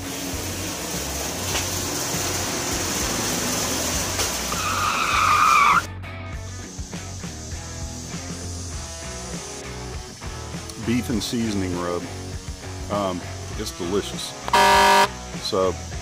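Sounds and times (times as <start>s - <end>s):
quiet background music: 2.0s - 16.0s.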